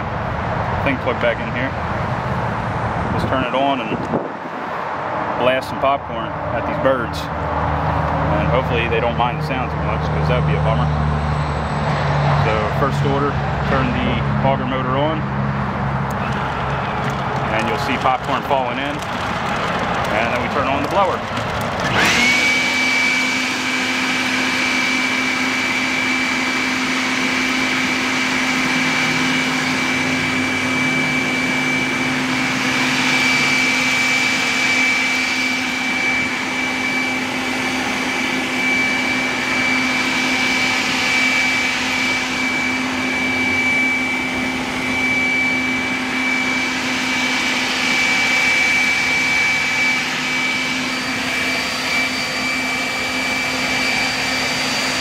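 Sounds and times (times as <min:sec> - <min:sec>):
leaf blower running: 0:06.6 - 0:55.0.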